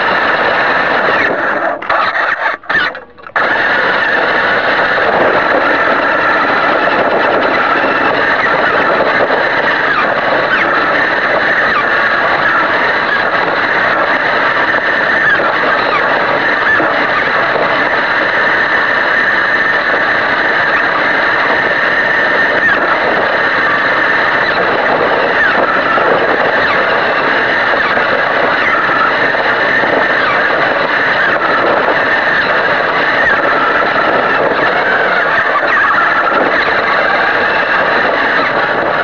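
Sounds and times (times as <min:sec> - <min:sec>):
toy car motor whining: 0:00.0 - 0:39.0.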